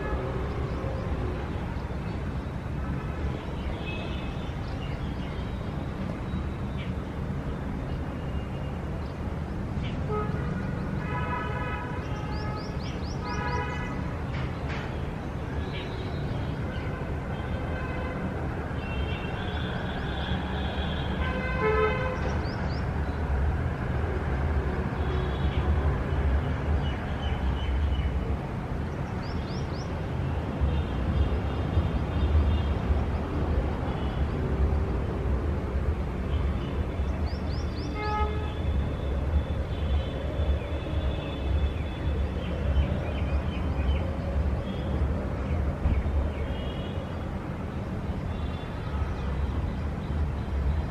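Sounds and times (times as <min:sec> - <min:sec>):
low rumble of traffic: 0:00.0 - 0:50.9.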